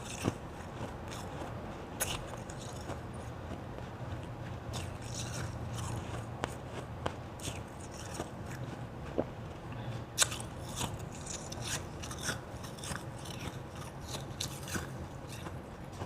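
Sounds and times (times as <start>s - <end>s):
ice being chewed: 0.0s - 16.0s.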